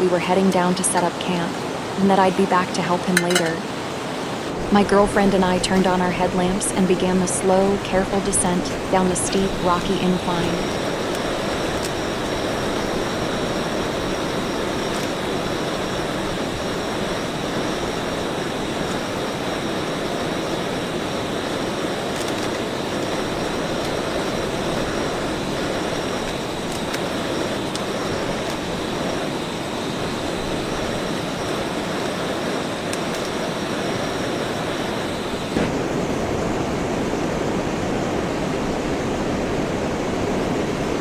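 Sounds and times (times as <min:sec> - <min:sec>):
heavy rain hissing: 0:00.0 - 0:41.0.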